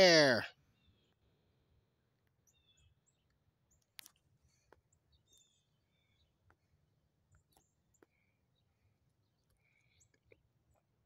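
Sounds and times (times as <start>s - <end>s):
faint bird chirps: 0.5s - 11.0s.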